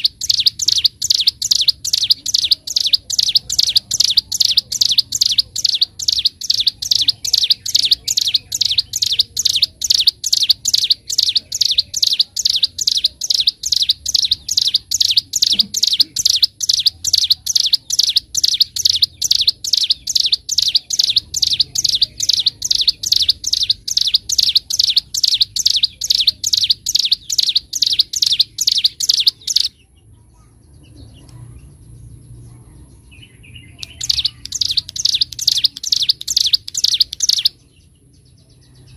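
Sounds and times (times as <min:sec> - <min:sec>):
songbird singing sharp high chirps: 0:00.0 - 0:30.0, 0:33.1 - 0:38.9.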